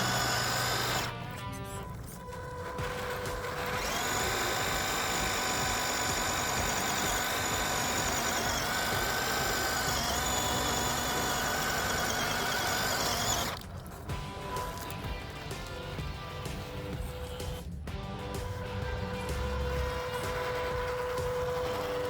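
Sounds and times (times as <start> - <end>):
rc car motor whining: 0.0 - 17.7, 18.3 - 22.0.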